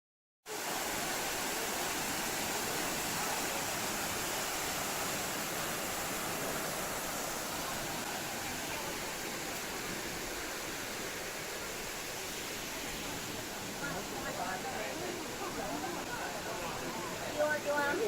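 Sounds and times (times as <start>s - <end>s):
waterfall rushing: 0.5s - 18.0s.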